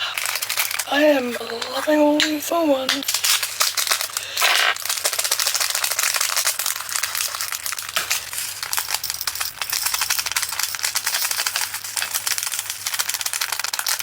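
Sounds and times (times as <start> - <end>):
small beads pouring and rattling: 0.0 - 1.9, 2.7 - 14.0
plastic bag crinkling: 0.0 - 14.0.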